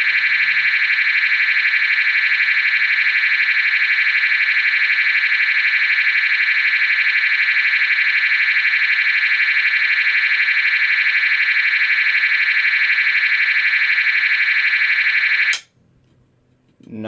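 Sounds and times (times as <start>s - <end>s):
fast warbling alarm tone: 0.0s - 15.6s.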